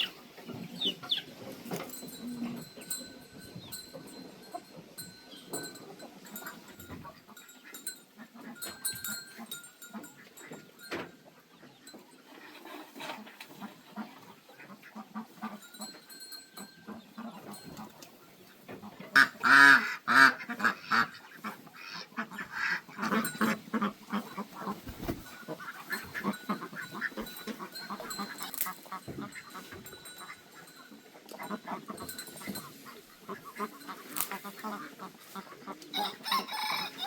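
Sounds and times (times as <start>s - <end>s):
poultry calling: 0.0s - 37.0s.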